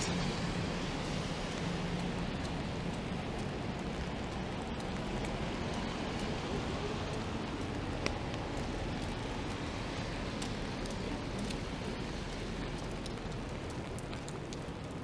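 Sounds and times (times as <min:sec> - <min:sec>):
low traffic hum: 0:00.0 - 0:15.0
rain on wet street: 0:00.0 - 0:15.0.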